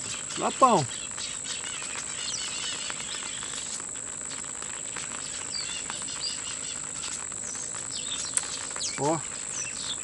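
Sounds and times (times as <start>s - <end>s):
bird chirps: 0.0s - 3.8s, 4.7s - 10.0s
high-pitched insect drone: 0.0s - 10.0s
light rain pattering: 0.0s - 10.0s.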